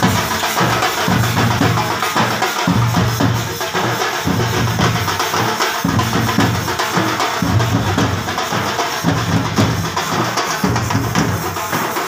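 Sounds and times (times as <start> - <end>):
rattle of sharper drums: 0.0 - 12.0.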